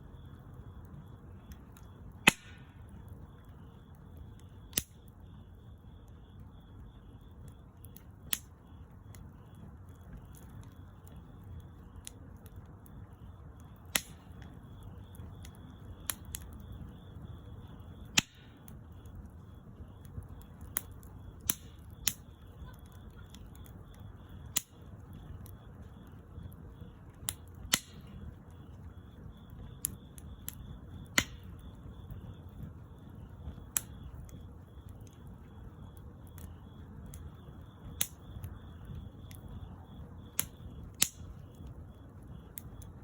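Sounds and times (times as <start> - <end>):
fire rumbling: 0.0 - 43.0
wood fire crackling: 0.0 - 43.0.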